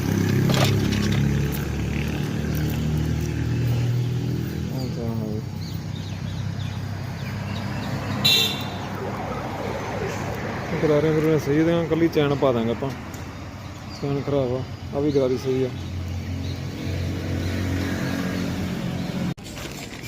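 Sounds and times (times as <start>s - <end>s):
vehicle engine humming: 0.0s - 19.4s.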